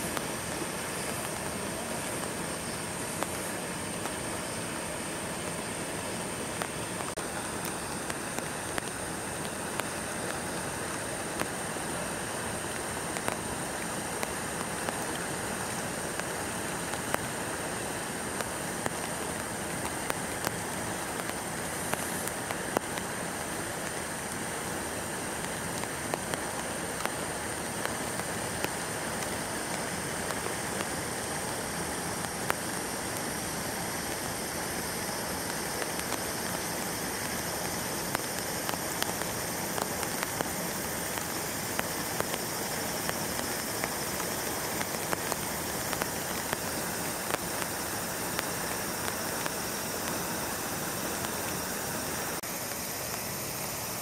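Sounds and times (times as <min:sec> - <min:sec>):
raindrops tapping surfaces: 0:00.0 - 0:54.0
steady rain falling: 0:00.0 - 0:54.0.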